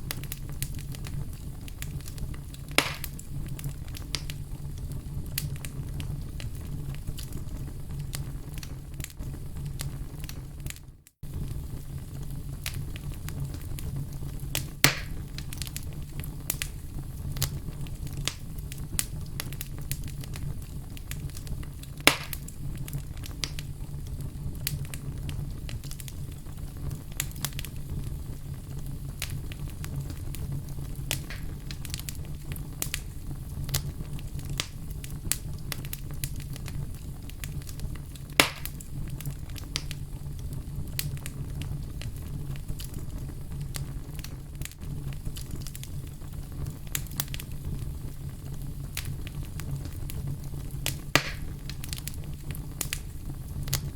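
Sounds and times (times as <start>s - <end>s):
loud fire pops: 0.0s - 53.9s
low rumble of flames: 0.0s - 53.9s
wood fire crackling: 0.0s - 53.9s.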